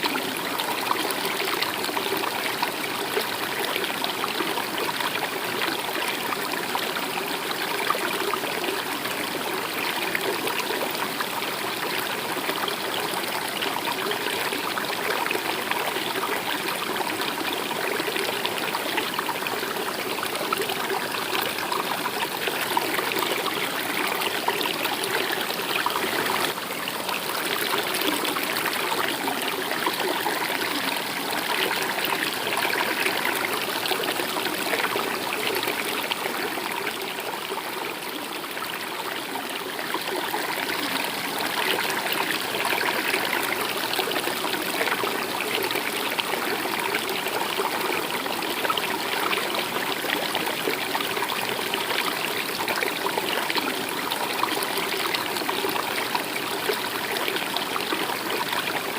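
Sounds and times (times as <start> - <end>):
water flowing over rocks: 0.0 - 58.9.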